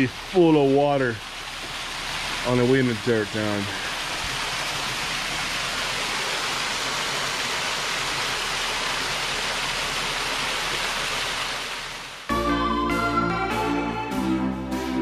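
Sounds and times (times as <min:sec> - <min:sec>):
small waterfall splashing: 0:00.0 - 0:12.3.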